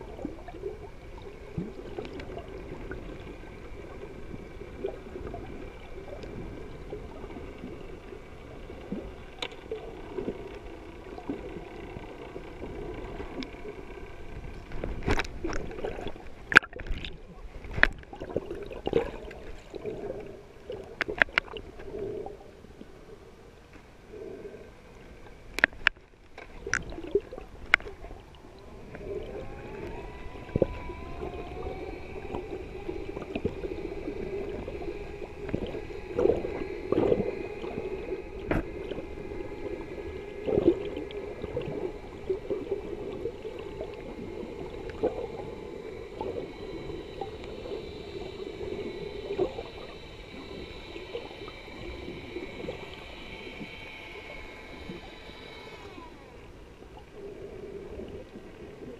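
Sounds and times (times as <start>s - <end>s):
underwater boat motor drone: 0.0s - 58.9s
water clicks and gurgles: 0.0s - 58.9s.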